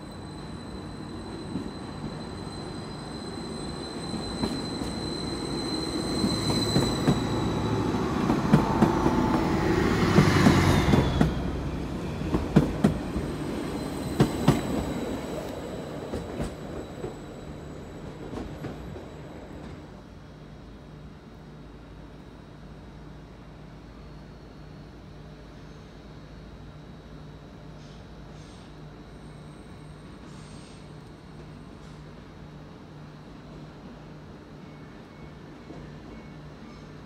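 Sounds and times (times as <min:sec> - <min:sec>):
high train whine: 0:00.0 - 0:37.0
passenger train passing: 0:00.0 - 0:37.0.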